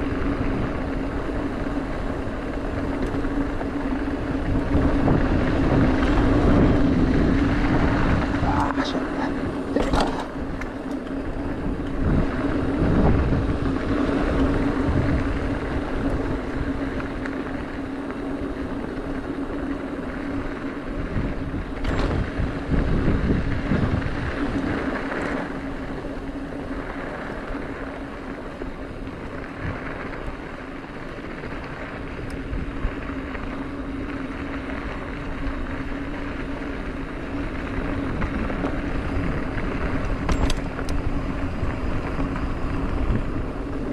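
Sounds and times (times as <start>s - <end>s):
bike tyres grinding on gravel: 0.0s - 43.9s
steady hum: 0.0s - 43.9s
wind rushing over microphone: 0.0s - 43.9s.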